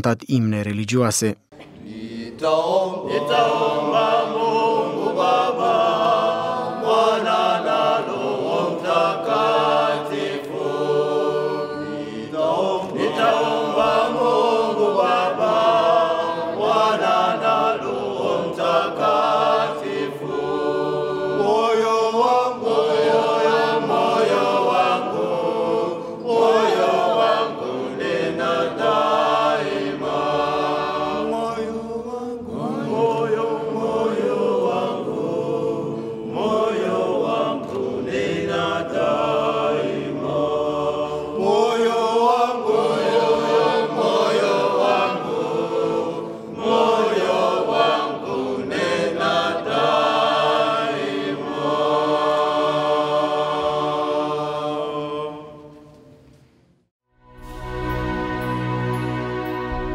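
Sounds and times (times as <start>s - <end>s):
choir singing a hymn: 1.6s - 56.5s, 57.3s - 59.9s.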